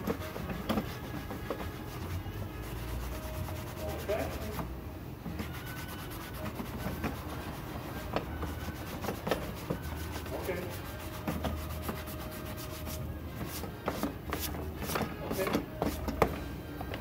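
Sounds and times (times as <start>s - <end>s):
sanding pad rubbing on felt: 0.0s - 4.6s, 5.4s - 15.0s.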